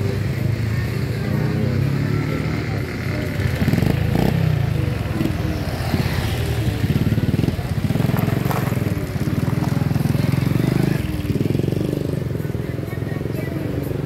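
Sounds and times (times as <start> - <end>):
motorcycle engine running: 0.0 - 14.0
street traffic: 0.0 - 14.0.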